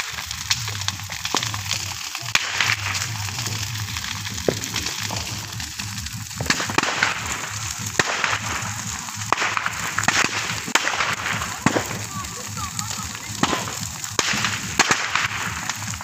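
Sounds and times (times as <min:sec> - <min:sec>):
rush of flame: 0:00.0 - 0:16.0
wood crackling and popping: 0:00.0 - 0:16.0.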